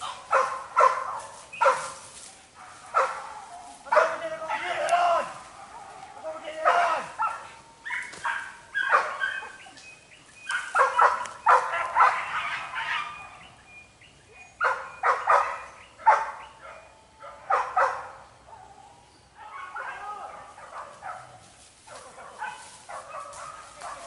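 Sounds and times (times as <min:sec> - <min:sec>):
dogs barking: 0:00.0 - 0:09.8, 0:10.4 - 0:13.6, 0:14.3 - 0:24.0.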